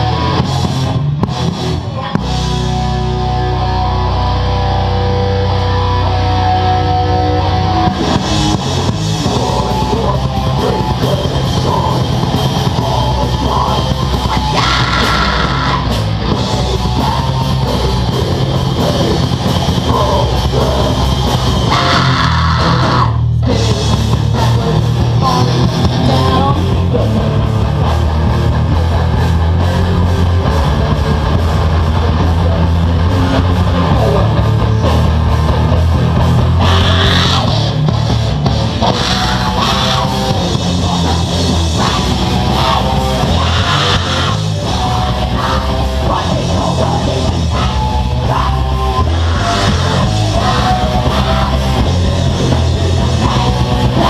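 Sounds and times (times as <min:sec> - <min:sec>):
distorted electric guitars: 0:00.0 - 0:54.0
drum kit: 0:00.0 - 0:54.0.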